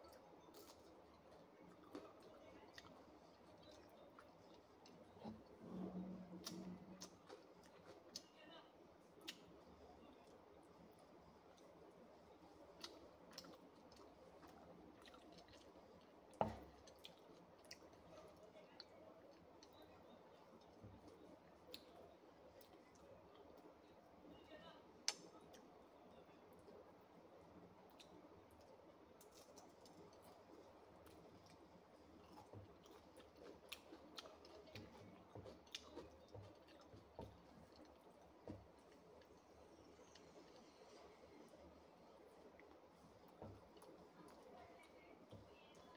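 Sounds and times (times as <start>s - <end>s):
soft chewing: 0.0s - 45.9s.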